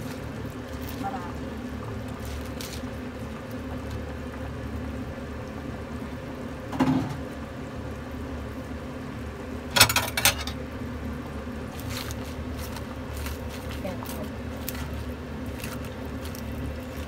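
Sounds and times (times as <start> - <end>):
soup simmering: 0.0 - 9.7, 10.5 - 17.0.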